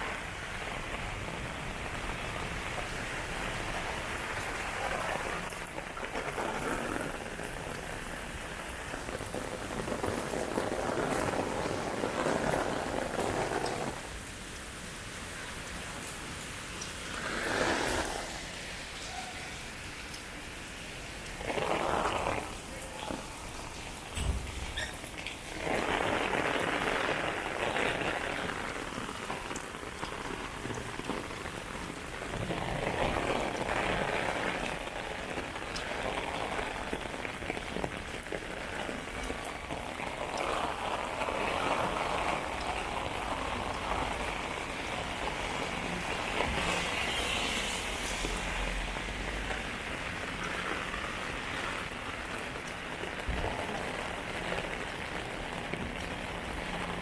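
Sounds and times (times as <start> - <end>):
heavy rain on pavement and umbrella: 0.0 - 57.0.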